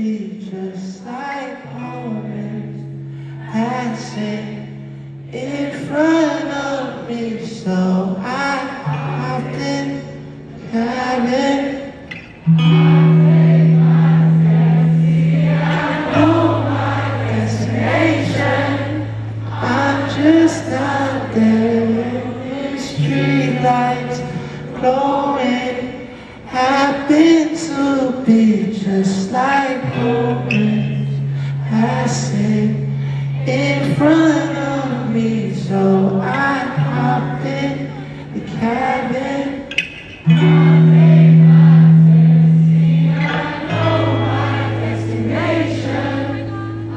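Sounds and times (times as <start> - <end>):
man singing: 0.0 - 46.9.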